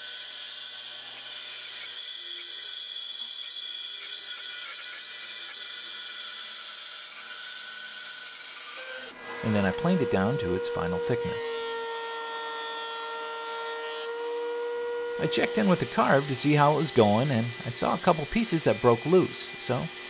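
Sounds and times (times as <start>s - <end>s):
bandsaw cutting wood: 0.0s - 20.0s.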